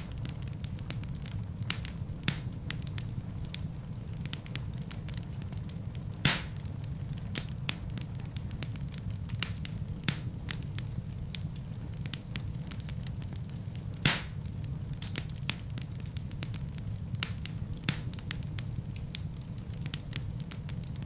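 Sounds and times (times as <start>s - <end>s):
fire crackling in a fireplace: 0.0s - 21.0s
loud fire pops: 0.0s - 21.0s.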